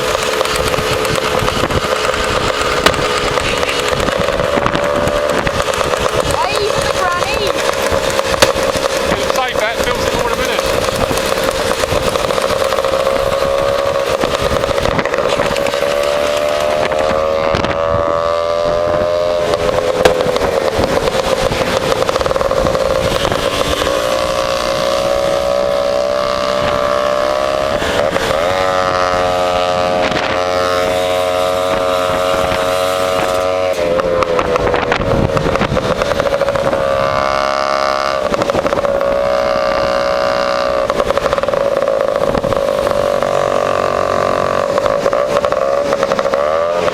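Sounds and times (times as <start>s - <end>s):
scooter engine revving: 0.0s - 46.9s.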